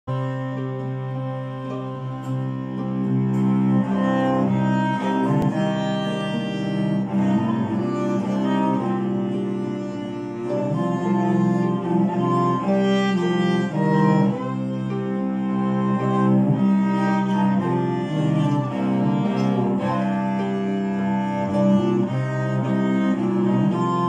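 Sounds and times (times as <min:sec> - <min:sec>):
cello low line: 0:00.1 - 0:24.0
fiddle bowing: 0:00.1 - 0:24.0.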